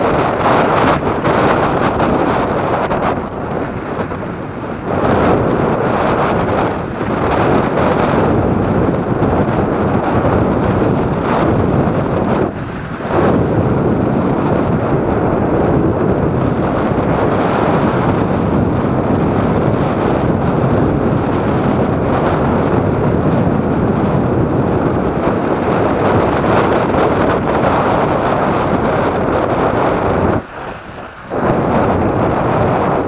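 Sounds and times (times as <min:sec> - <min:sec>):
tyres on dirt road: 0:00.0 - 0:33.0
wind buffeting microphone: 0:00.0 - 0:33.0.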